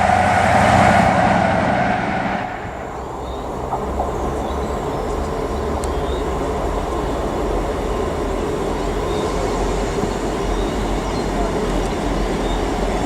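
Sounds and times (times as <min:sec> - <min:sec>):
low drone: 0:00.0 - 0:12.2
train rumbling: 0:00.0 - 0:13.0.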